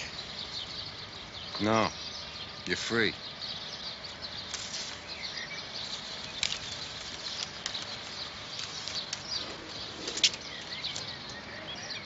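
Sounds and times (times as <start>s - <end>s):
birds chirping: 0.0s - 12.0s
steady background hiss: 0.0s - 12.0s.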